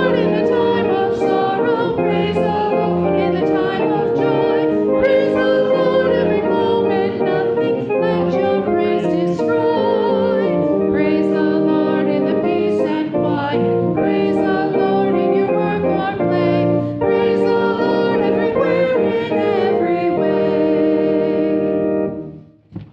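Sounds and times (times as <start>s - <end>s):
congregation singing a hymn: 0.0s - 22.3s
instrumental accompaniment: 0.0s - 22.9s.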